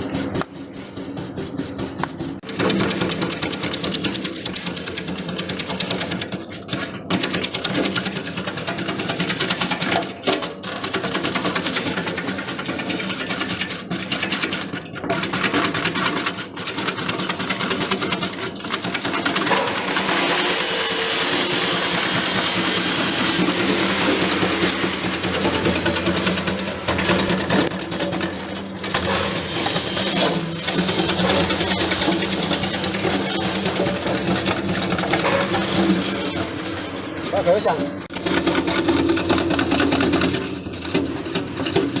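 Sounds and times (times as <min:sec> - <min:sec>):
shredding machine chatter: 0:00.0 - 0:41.9.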